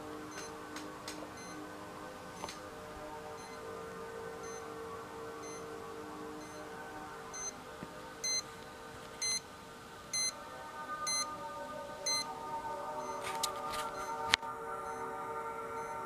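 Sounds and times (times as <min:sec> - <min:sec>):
steady electronic tones: 0:00.0 - 0:16.0.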